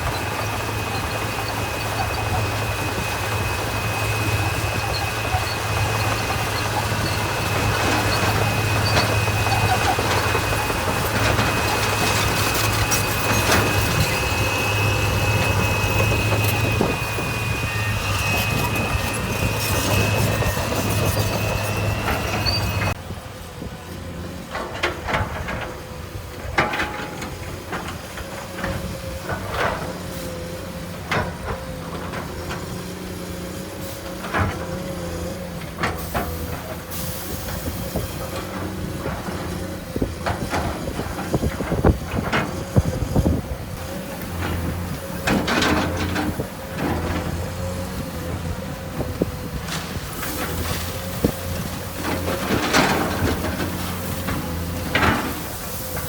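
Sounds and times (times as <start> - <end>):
diesel engine with high whine: 0.0 - 56.0.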